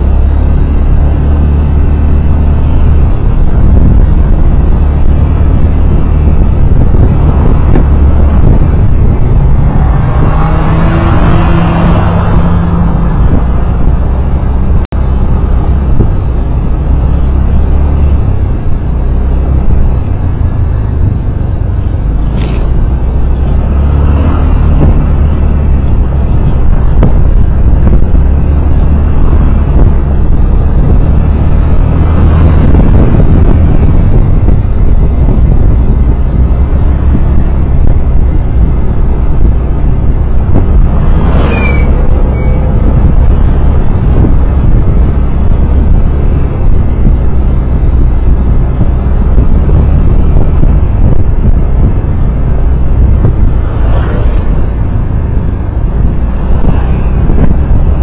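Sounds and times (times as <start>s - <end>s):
car driving on a road: 0.0s - 58.0s
vehicles passing: 0.0s - 58.0s.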